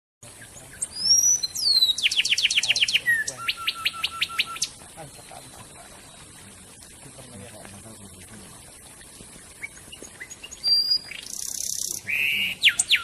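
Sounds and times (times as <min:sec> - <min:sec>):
songbird singing: 0:00.2 - 0:13.0.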